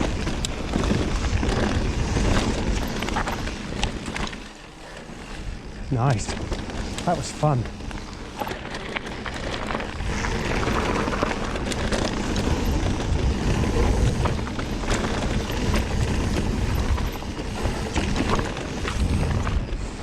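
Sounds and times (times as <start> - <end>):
wind buffeting microphone: 0.0 - 4.3, 5.2 - 20.0
bike clicks and rattles: 0.0 - 20.0
bike tyre rumble on dirt: 0.0 - 20.0.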